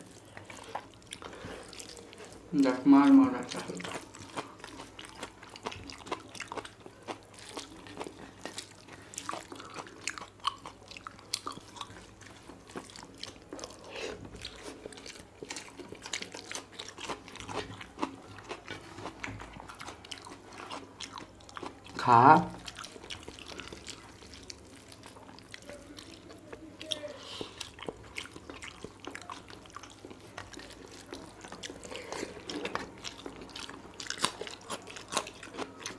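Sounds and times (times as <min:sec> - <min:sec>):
person chewing food: 0:00.0 - 0:35.9.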